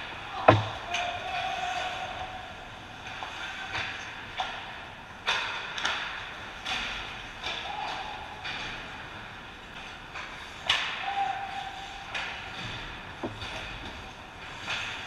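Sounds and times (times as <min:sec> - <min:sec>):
hockey sticks and puck clacking: 0:00.1 - 0:15.0.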